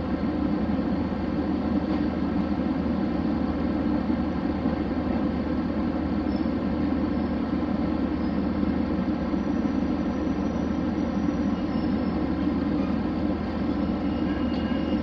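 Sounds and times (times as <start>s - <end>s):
railcar engine hum: 0.0s - 15.0s
train rolling noise: 0.0s - 15.0s.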